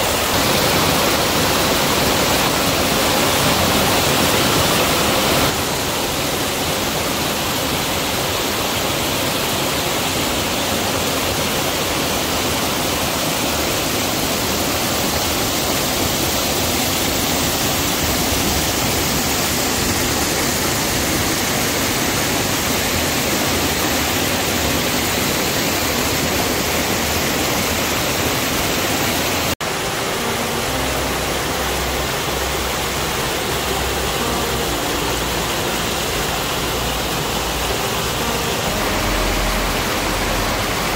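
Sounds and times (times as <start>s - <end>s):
stream rushing over boulders: 0.0s - 40.9s.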